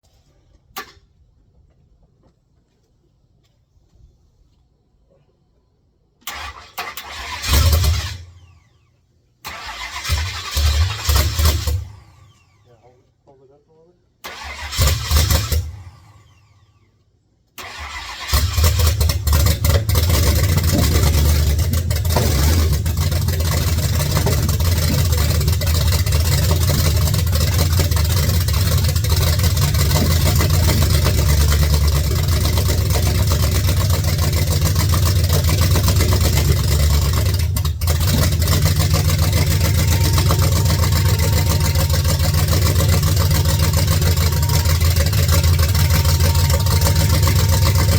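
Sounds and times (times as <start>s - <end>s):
truck engine starting and running: 6.2s - 12.9s, 14.2s - 47.9s.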